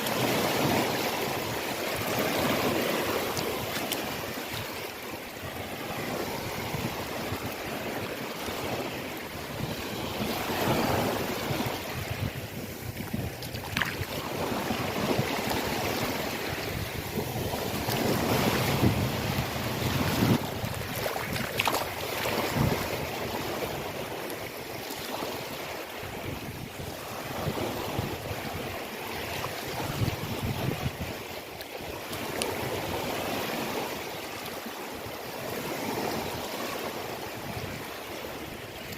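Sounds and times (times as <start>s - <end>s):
sea waves washing: 0.0s - 38.9s.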